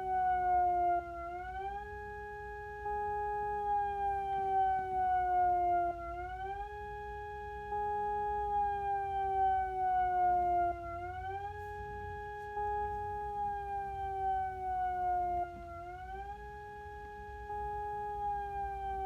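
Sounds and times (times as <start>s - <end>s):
electronic warning siren: 0.0s - 19.0s.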